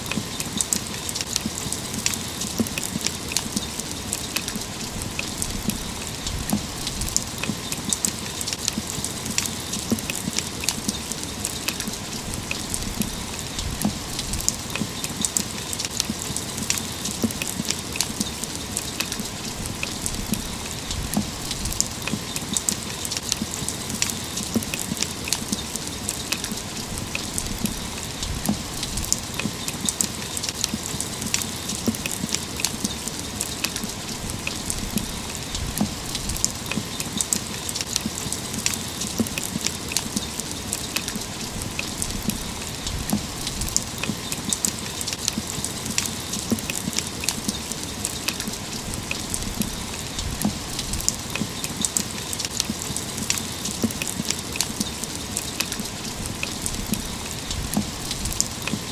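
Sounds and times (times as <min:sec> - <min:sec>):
raindrops ticking: 0:00.0 - 0:58.9
steady rain hiss: 0:00.0 - 0:58.9.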